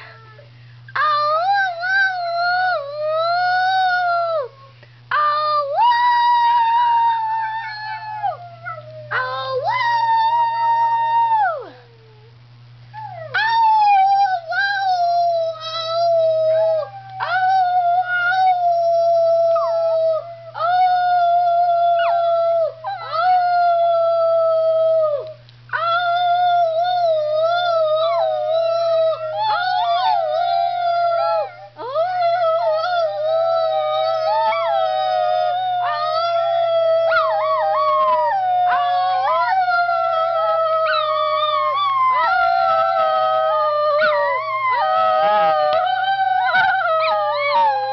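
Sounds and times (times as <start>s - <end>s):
dog howling: 1.0s - 12.4s, 13.0s - 47.9s.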